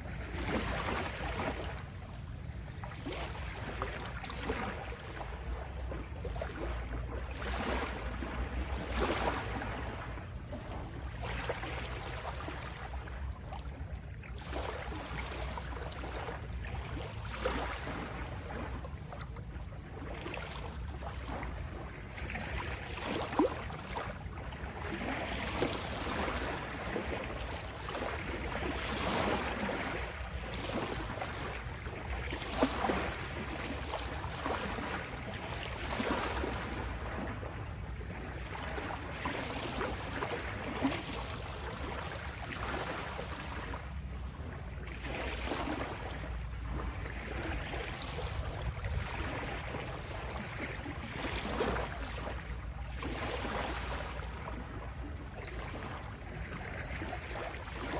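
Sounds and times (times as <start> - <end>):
small water splashes: 0.0 - 57.9
small waves lapping at shore: 0.0 - 57.9.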